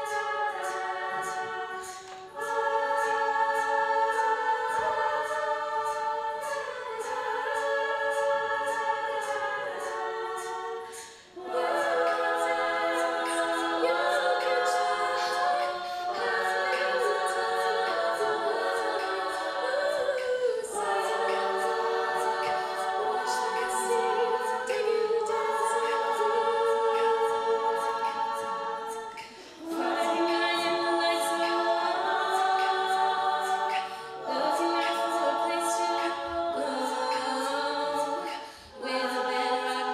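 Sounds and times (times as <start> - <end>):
female a cappella group singing: 0.0 - 39.9.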